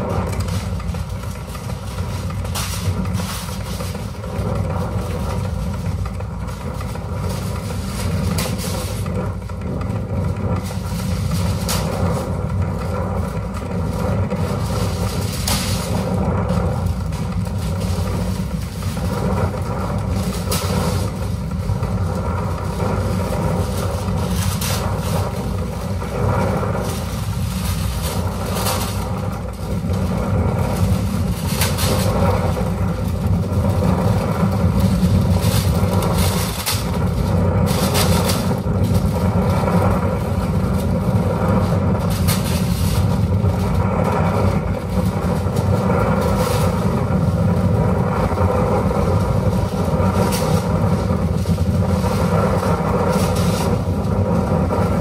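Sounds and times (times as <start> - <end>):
dense low rumble: 0.0 - 55.0
hissing noise bursts: 0.0 - 55.0.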